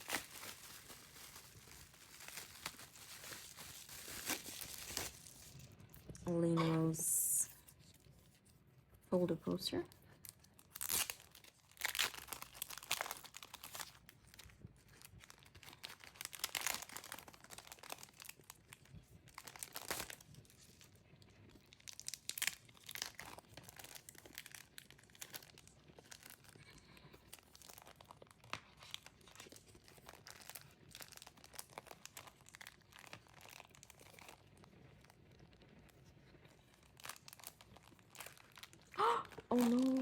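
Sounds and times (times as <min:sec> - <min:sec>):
packaging crinkling and tearing: 0:00.0 - 0:08.5, 0:09.9 - 0:40.0.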